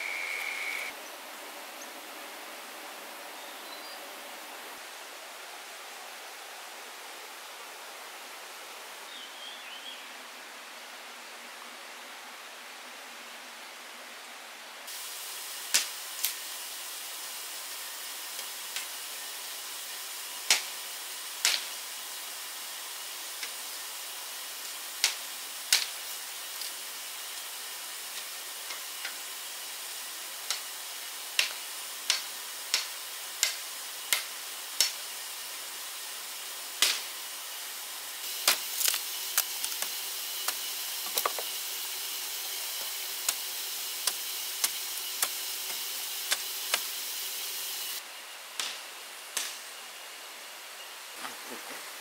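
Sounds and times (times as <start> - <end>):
steady hiss: 0.0 - 52.0.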